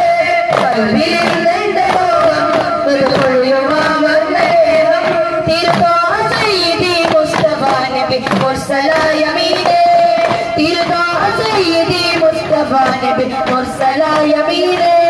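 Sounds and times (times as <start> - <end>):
frame drums beating: 0.0 - 15.0
person singing devotional song: 0.0 - 15.0.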